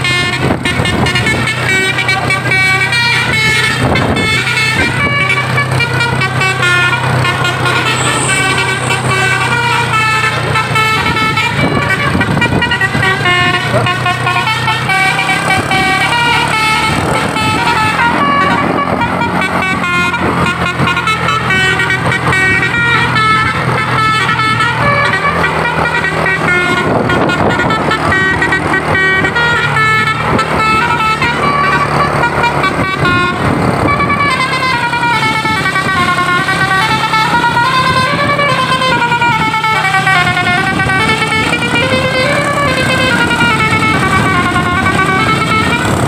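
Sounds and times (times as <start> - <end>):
bus engine running: 0.0 - 46.0
musical bus horn playing tune: 0.0 - 46.0.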